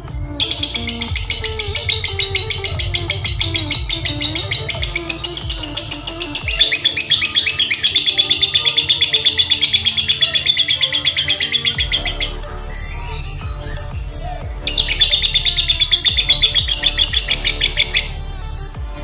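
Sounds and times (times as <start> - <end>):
background music: 0.0 - 19.0
lovebird chirping rapidly: 0.4 - 18.4.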